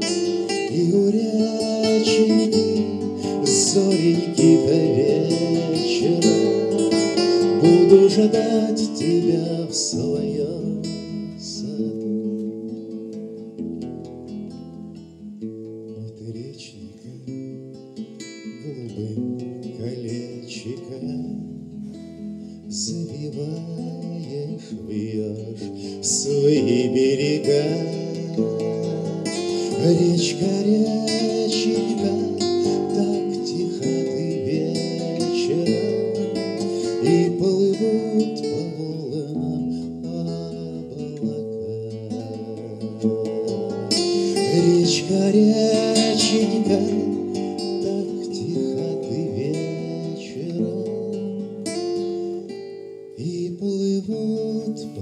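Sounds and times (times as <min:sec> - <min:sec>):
man singing: 0:00.0 - 0:13.6, 0:15.7 - 0:22.0, 0:22.6 - 0:52.2, 0:53.1 - 0:55.0
classical guitar playing: 0:00.0 - 0:55.0.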